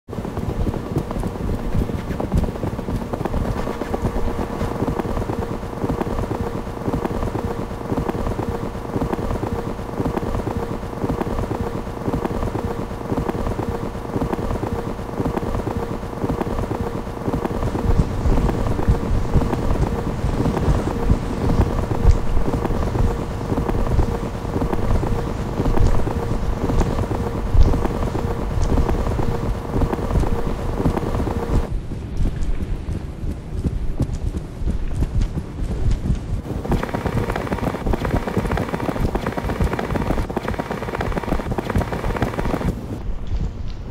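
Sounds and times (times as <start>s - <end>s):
fast crackling rumble: 0.0s - 43.9s
steady droning tone: 2.9s - 43.0s.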